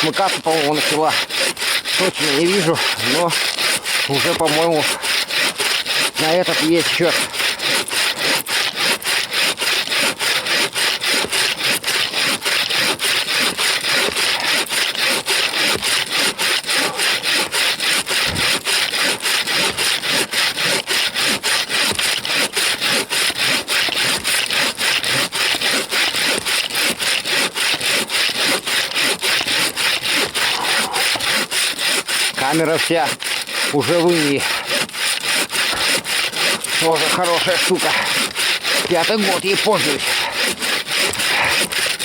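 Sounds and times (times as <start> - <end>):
bow saw cutting log: 0.0 - 42.0.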